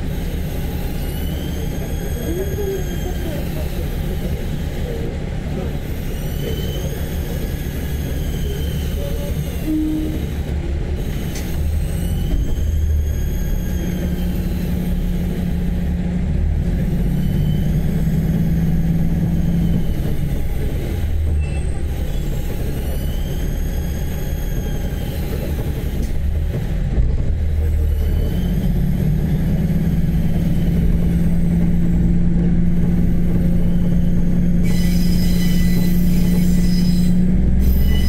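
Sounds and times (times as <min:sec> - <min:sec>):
high wheel squeal: 0:00.0 - 0:16.0, 0:16.6 - 0:26.8, 0:27.4 - 0:38.0
railcar engine and wheel rumble: 0:00.0 - 0:38.0.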